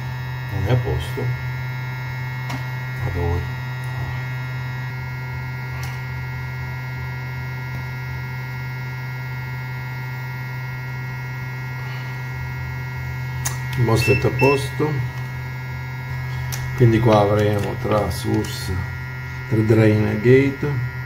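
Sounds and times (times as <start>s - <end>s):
buzzy mains hum: 0.0s - 21.0s.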